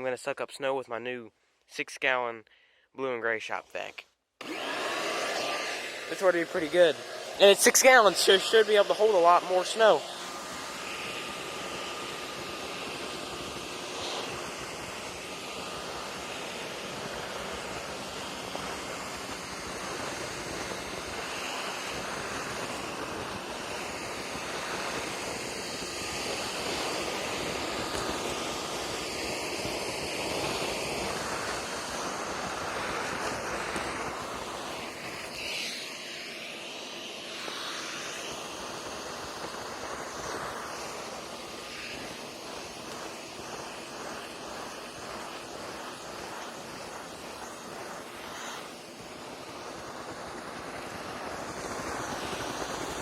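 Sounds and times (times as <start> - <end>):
shop vac sucking up snow: 3.7 - 53.0.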